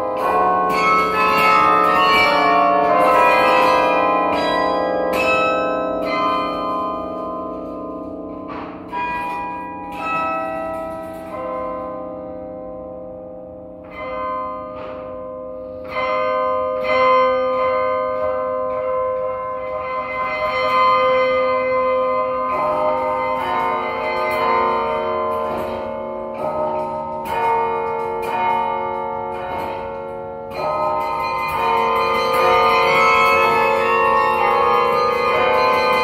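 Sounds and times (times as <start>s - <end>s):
carillon bells ringing: 0.0s - 36.0s.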